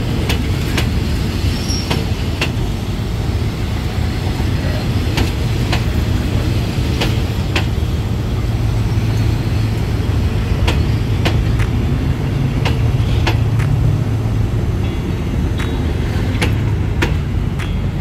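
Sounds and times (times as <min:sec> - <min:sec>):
wheels clicking over rail joints: 0:00.0 - 0:18.0.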